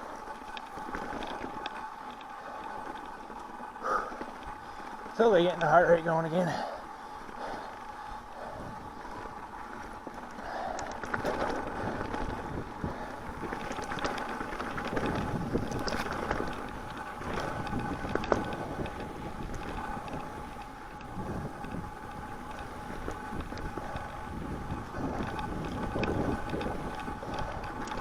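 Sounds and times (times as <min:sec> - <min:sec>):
bike clicking and rattling: 0:00.0 - 0:28.0
bike tyres on dirt trail: 0:00.0 - 0:28.0
wind buffeting microphone: 0:00.0 - 0:28.0.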